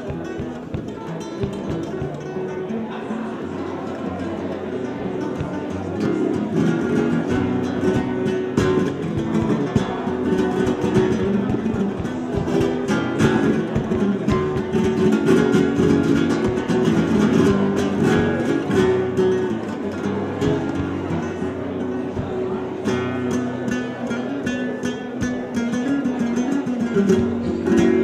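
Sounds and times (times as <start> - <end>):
guitar plucked notes and strummed chords: 0.0 - 28.0.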